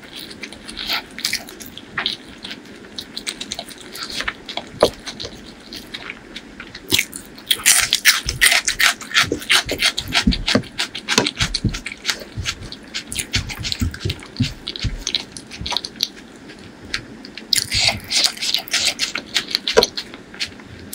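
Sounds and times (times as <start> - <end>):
fingers squishing rice: 0.0 - 20.9
wet chewing sounds: 0.0 - 20.9.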